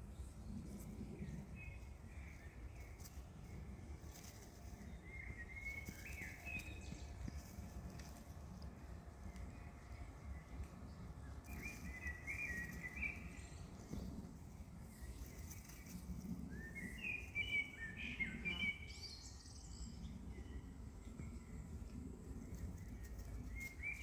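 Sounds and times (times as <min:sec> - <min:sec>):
low outdoor rumble: 0:00.0 - 0:24.0
small bird chirping and warbling: 0:00.1 - 0:08.4, 0:09.5 - 0:20.6, 0:22.7 - 0:24.0.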